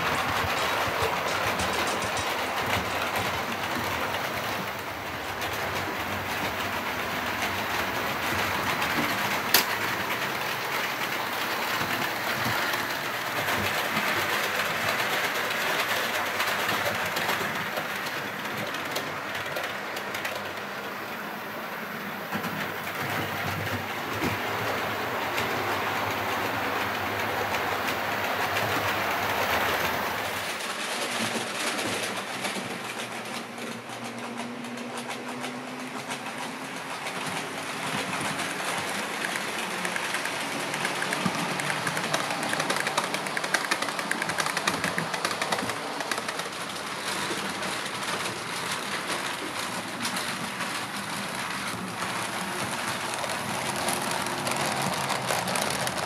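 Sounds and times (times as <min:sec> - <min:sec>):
model train wheels rumbling: 0:00.0 - 0:56.0.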